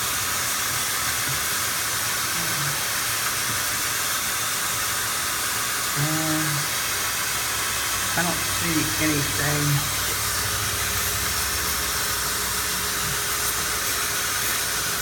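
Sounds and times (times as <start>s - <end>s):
vacuum running with rushing hiss: 0.0s - 15.0s.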